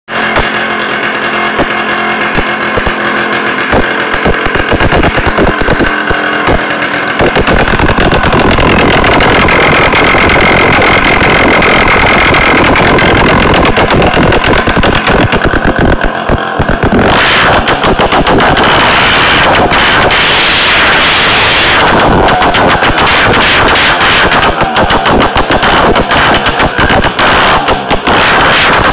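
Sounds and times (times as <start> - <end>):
moped two-stroke engine running: 0.1 - 28.9.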